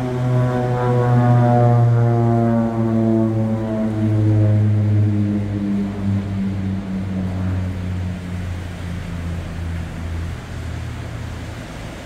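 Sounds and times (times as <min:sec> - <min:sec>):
low propeller drone: 0:00.0 - 0:12.0.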